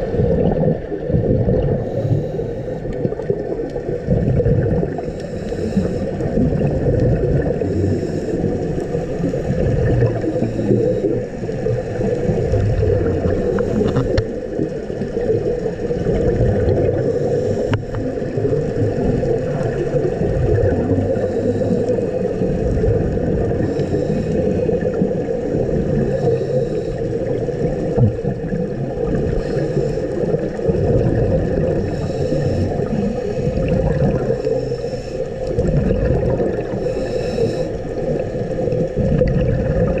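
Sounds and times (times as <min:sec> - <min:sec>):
diver's exhaled bubbles gurgling: 0:00.0 - 0:40.0
low underwater rumble: 0:00.0 - 0:40.0.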